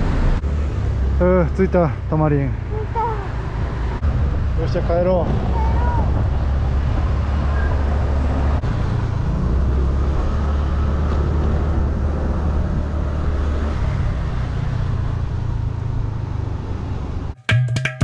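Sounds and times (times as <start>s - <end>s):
road and wind noise: 0.0s - 17.4s.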